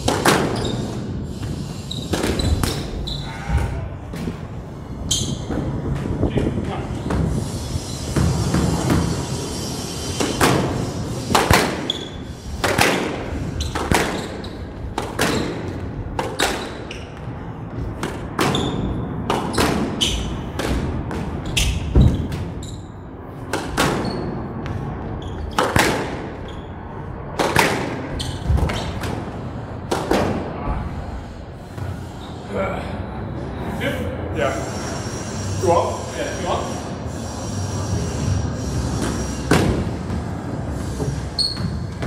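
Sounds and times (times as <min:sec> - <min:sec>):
racquets hitting squash ball: 0:00.0 - 0:31.2, 0:38.8 - 0:42.0.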